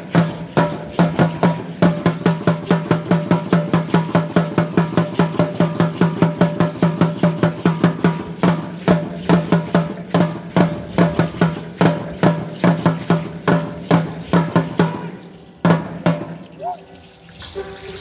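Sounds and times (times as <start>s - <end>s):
drum beating fast rhythm: 0.0s - 17.0s.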